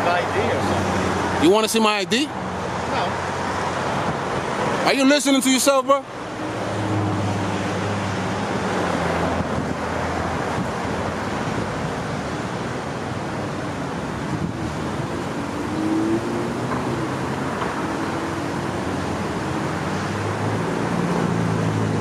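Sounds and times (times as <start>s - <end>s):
road traffic noise: 0.0s - 22.0s
vehicle engine hum: 2.3s - 22.0s.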